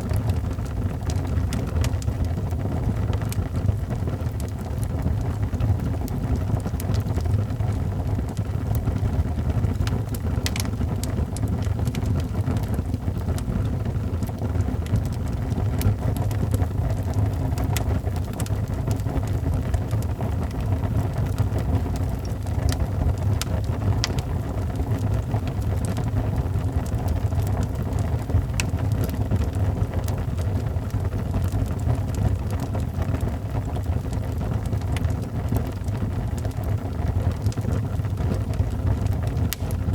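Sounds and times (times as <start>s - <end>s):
fire crackles and pops: 0.0s - 39.9s
fire roaring in fireplace: 0.0s - 39.9s.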